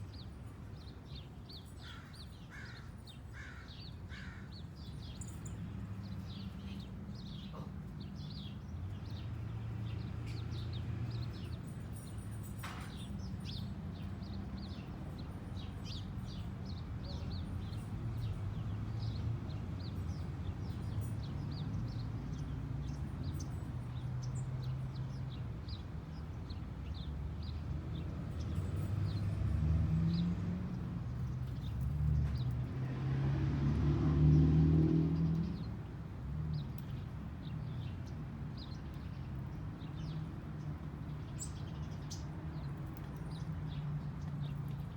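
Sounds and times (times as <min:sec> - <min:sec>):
small birds chirping: 0:00.0 - 0:32.9, 0:35.0 - 0:44.9.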